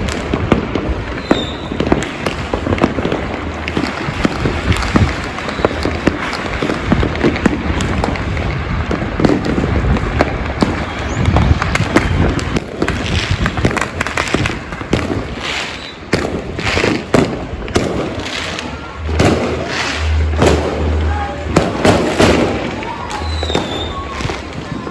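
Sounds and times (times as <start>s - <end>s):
fireworks and firecrackers crackling: 0.0s - 24.9s.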